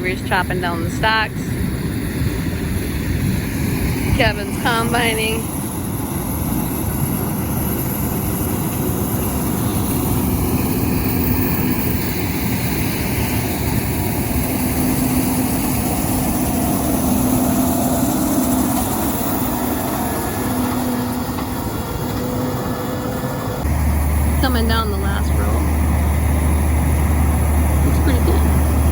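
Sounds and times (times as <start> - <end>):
diesel engine rumble: 0.0 - 28.9.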